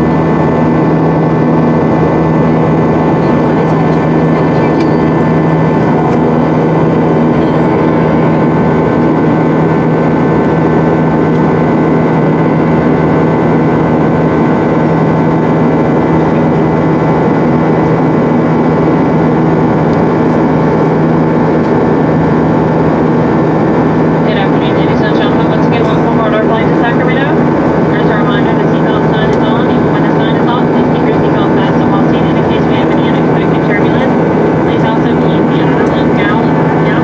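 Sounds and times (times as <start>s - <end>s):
jet engine drone in cabin: 0.0s - 37.0s.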